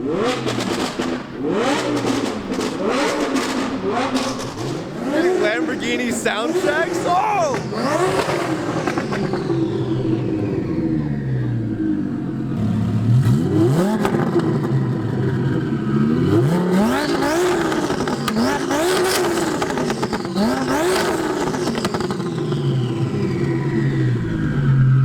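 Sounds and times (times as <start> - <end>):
car engine idling: 0.0 - 24.9
car engine revving: 0.0 - 25.0.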